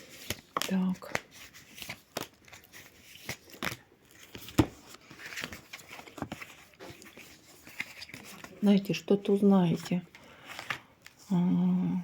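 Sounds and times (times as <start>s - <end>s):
cards rustling: 0.0s - 11.4s.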